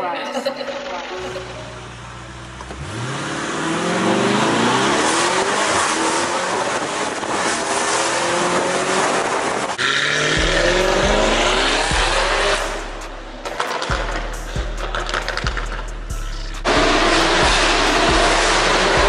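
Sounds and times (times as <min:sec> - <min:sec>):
car engine accelerating hard: 0:01.4 - 0:19.0.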